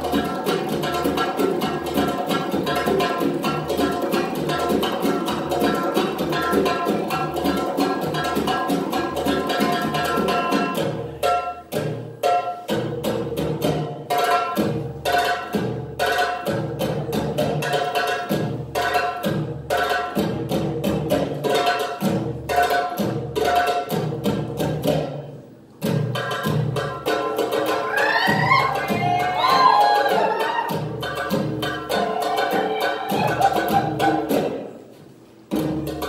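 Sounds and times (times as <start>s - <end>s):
hand drums fast rhythm: 0.0s - 34.8s.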